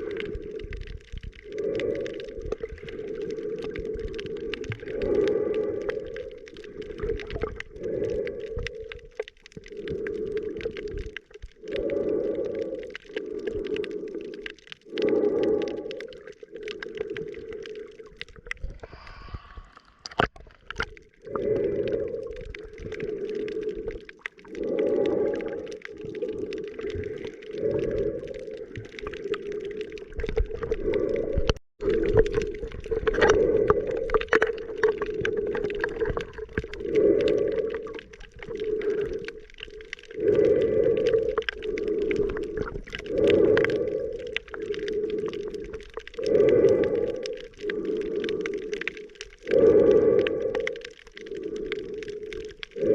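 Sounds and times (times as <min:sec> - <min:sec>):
muffled breathing through snorkel underwater: 0:00.0 - 0:52.9.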